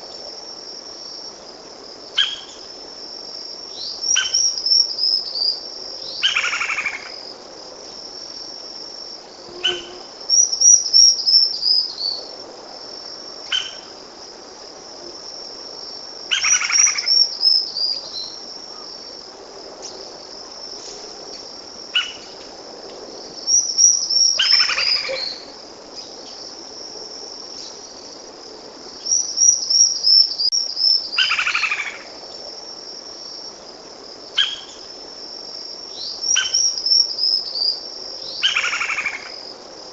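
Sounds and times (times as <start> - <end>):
high-pitched insect trill: 0.0 - 39.9.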